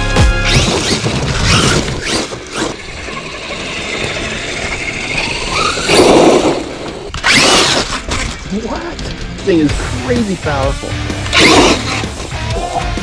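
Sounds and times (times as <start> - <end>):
electric motor whining: 0.3 - 8.4, 9.9 - 12.9.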